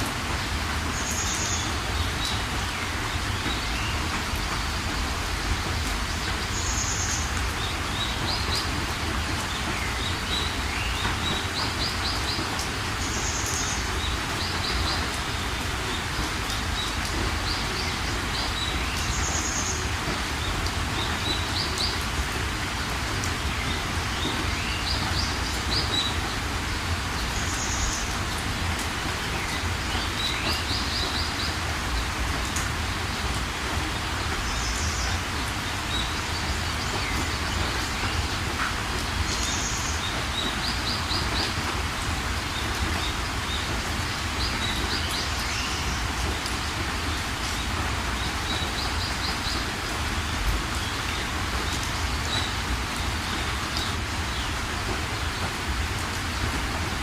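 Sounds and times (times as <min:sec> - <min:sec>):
birds calling and chirping: 0:00.0 - 0:57.0
steady rain: 0:00.0 - 0:57.0.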